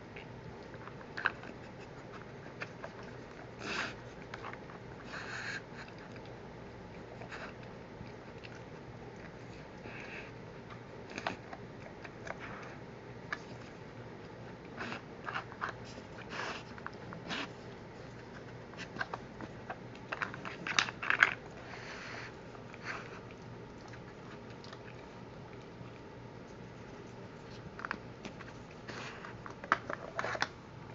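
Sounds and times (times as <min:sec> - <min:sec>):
dog chewing treats: 0:00.1 - 0:30.6.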